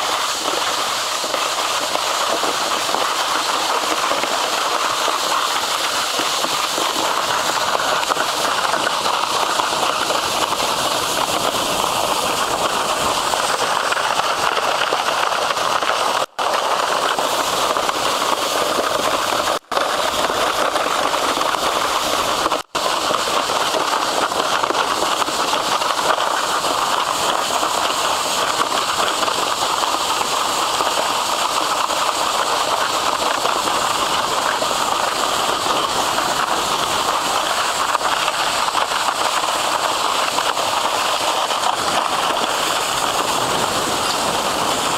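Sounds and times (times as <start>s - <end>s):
plastic skis hissing over snow: 0.0s - 44.9s.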